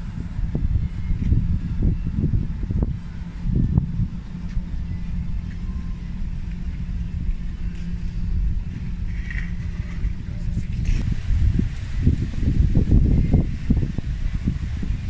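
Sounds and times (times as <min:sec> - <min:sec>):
faint hum: 0:00.0 - 0:15.0
low steady rumble: 0:00.0 - 0:15.0.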